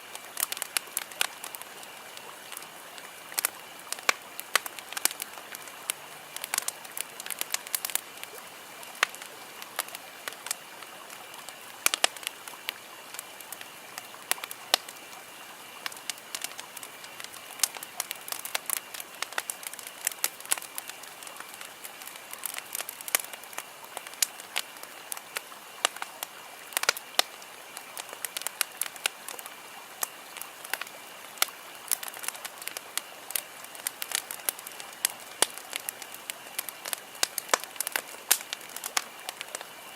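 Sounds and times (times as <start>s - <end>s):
campfire crackling and popping: 0.0s - 39.9s
steady low hiss: 0.0s - 39.9s.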